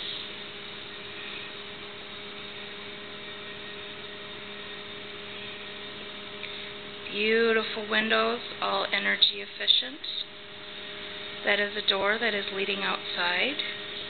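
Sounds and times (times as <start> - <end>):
low electrical hum: 0.0 - 14.0
steady hiss: 0.0 - 14.0.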